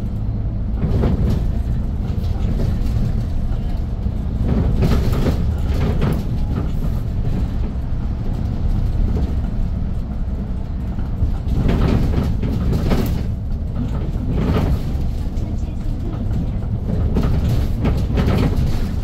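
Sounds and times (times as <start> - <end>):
bus engine running: 0.0 - 19.0
low road rumble: 0.0 - 19.0.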